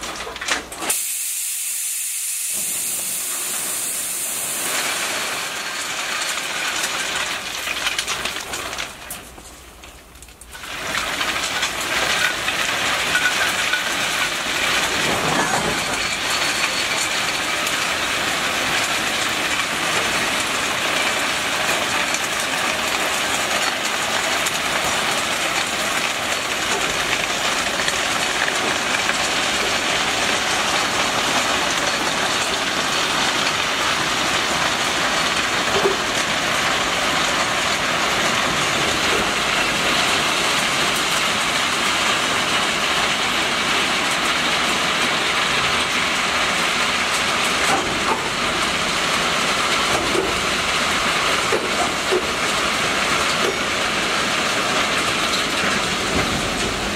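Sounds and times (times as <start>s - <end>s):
stone pouring from hopper: 2.6s - 56.9s
wagon wheels rumbling: 5.0s - 56.9s.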